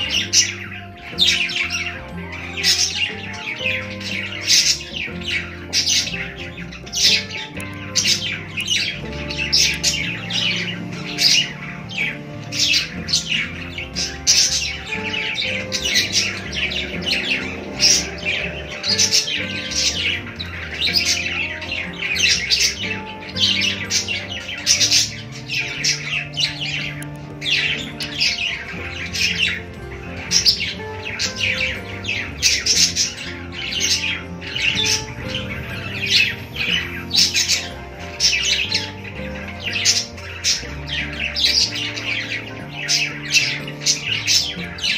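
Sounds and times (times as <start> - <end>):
budgerigars chirping and chattering: 0.0 - 44.9
soft background music: 0.0 - 44.9.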